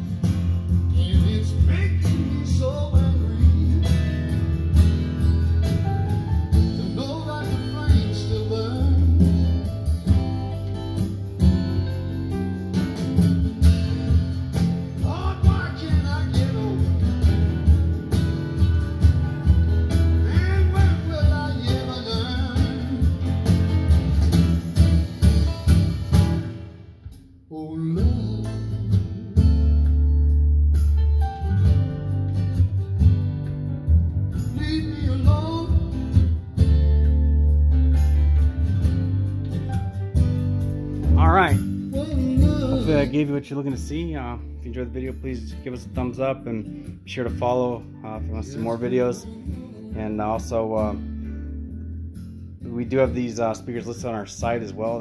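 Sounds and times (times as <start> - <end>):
song with singing and guitar: 0.0 - 55.0.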